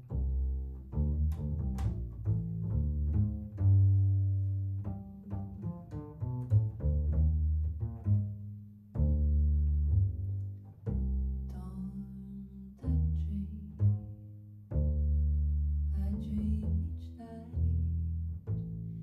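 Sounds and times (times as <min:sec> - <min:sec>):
double bass plucked: 0:00.0 - 0:19.0.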